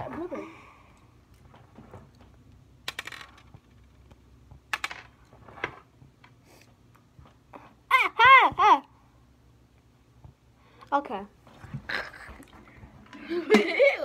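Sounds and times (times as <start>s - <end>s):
faint low room hum: 0.0s - 14.0s.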